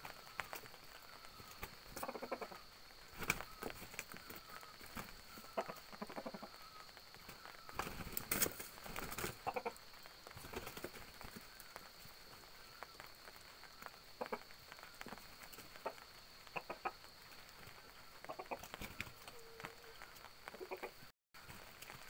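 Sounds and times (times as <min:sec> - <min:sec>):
wings flapping: 0:00.0 - 0:22.0.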